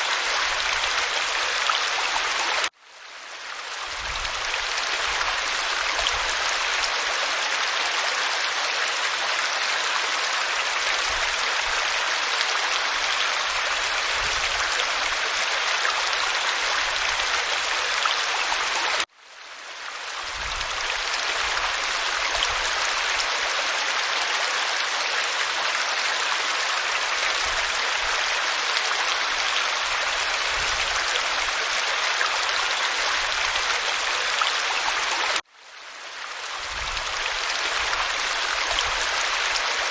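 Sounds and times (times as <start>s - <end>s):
waterfall pouring over rock: 0.0s - 19.1s, 19.7s - 35.5s, 36.1s - 39.9s.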